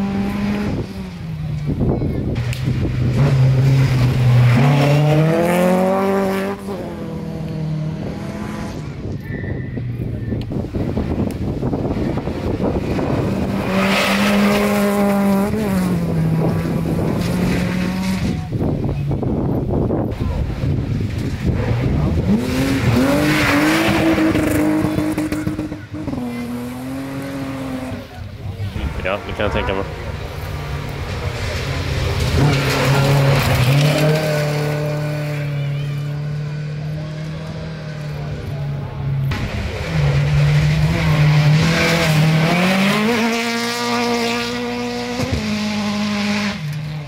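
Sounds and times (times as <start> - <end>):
rally car passing at speed: 0.0 - 9.8, 10.5 - 47.0.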